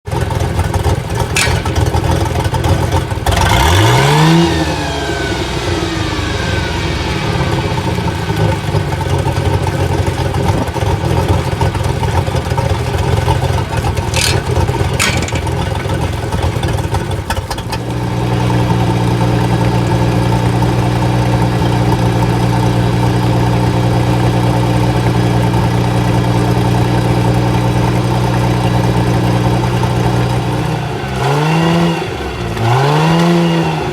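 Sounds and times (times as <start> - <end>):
boat engine revving: 0.3 - 33.9.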